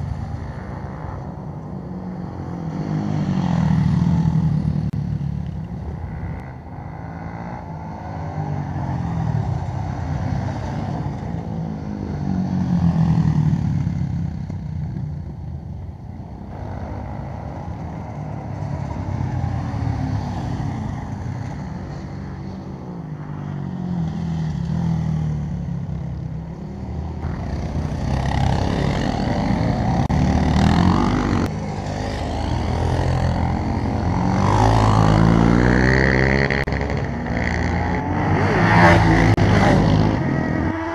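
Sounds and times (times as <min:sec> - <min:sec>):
quad bike engines revving: 0:00.0 - 0:40.9.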